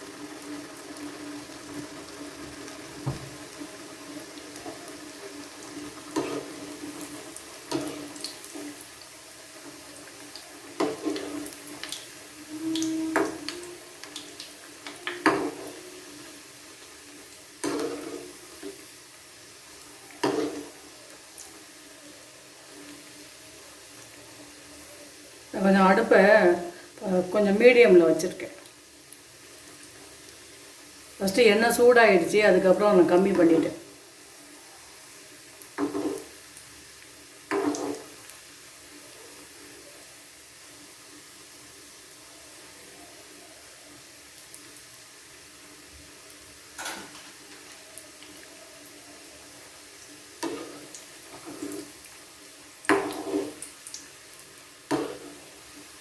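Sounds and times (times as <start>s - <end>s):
bread deep-frying in oil: 0.0s - 56.0s
loud sizzle bursts: 0.0s - 56.0s.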